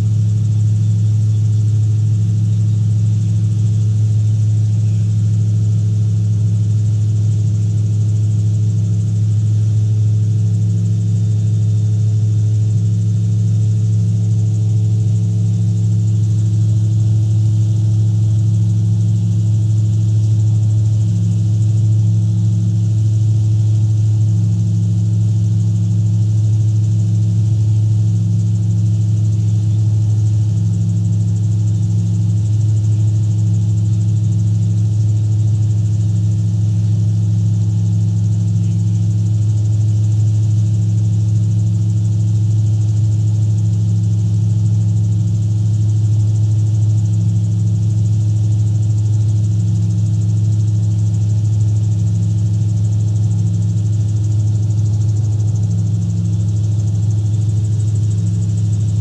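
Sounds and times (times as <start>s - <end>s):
gyrocopter engine droning: 0.0s - 59.0s.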